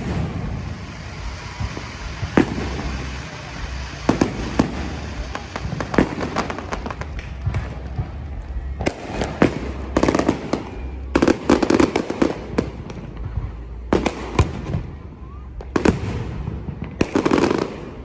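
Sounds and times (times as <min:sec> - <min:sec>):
rapid crackling pops: 0:00.0 - 0:14.8
fireworks rumble: 0:00.0 - 0:18.0
fireworks sharp bangs: 0:00.0 - 0:18.0.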